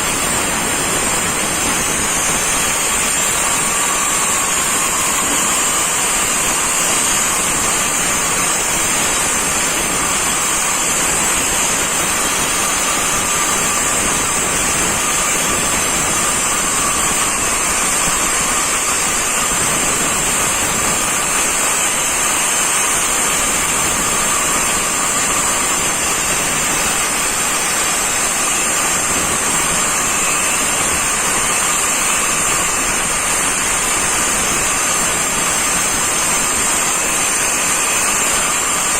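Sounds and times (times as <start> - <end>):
angle grinder cutting masonry: 0.0 - 38.9.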